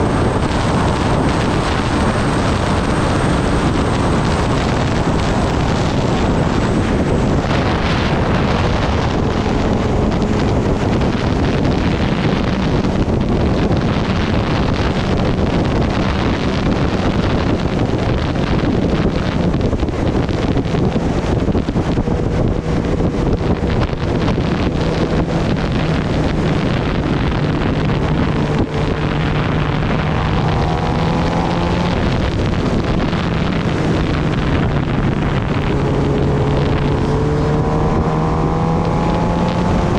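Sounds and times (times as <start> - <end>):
motorcycle engine at speed: 0.0 - 39.9
wind rushing over microphone: 0.0 - 39.9.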